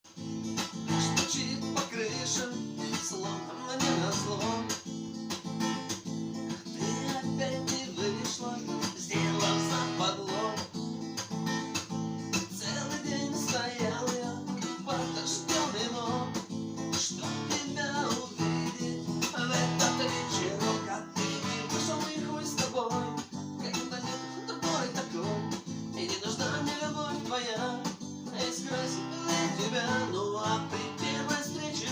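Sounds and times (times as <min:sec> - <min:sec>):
acoustic guitar strumming chords: 0:00.1 - 0:31.9.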